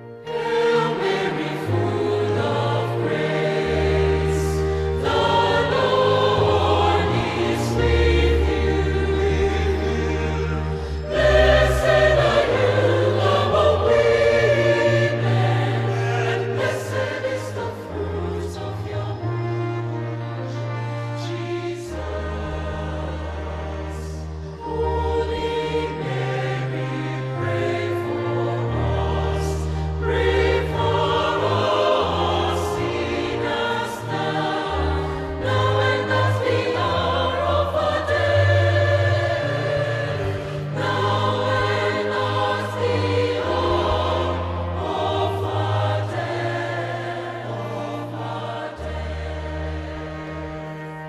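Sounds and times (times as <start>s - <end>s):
choir singing sacred choral piece: 0.0s - 51.0s.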